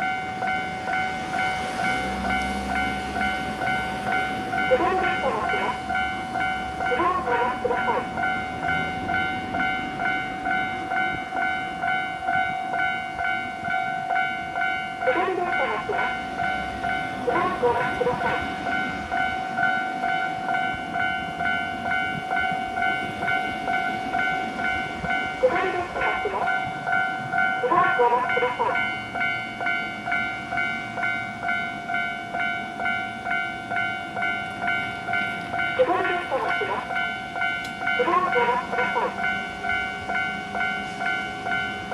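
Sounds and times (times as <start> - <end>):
level-crossing warning bell: 0.0 - 41.9.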